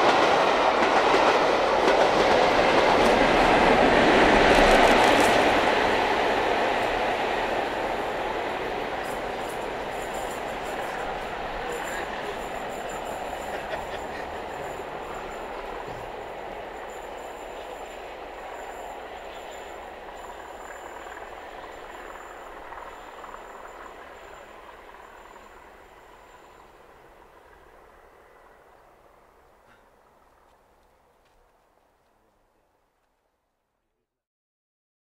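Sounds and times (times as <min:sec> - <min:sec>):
diesel train rumbling: 0:00.0 - 0:32.1.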